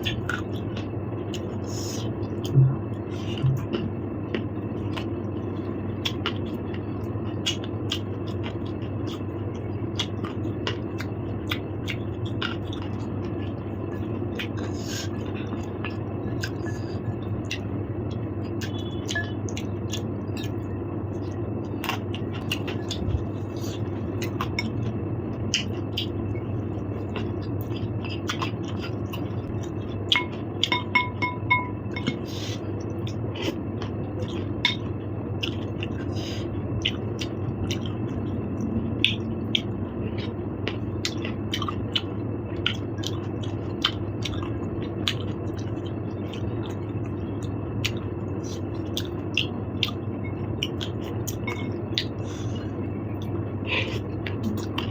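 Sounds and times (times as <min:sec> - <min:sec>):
low background hum: 0:00.0 - 0:54.9.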